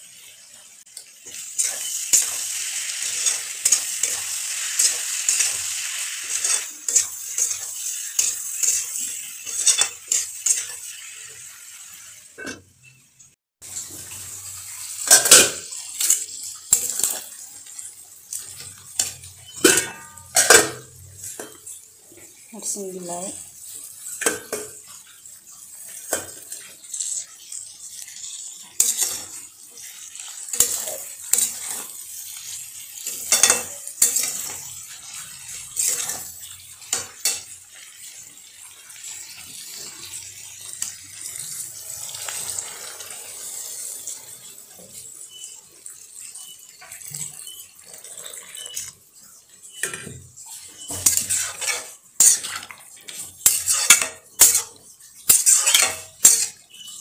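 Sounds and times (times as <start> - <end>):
frying sizzle: 0.0 - 57.0
metal spatula scraping a wok: 1.1 - 13.0, 14.9 - 21.8, 25.8 - 40.2, 40.8 - 45.6, 46.2 - 57.0.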